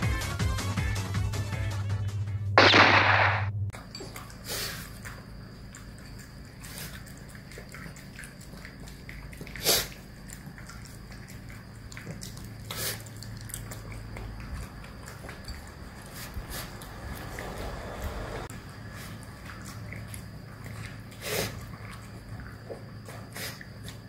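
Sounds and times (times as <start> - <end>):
dogs crunching and chewing: 3.8 - 24.0.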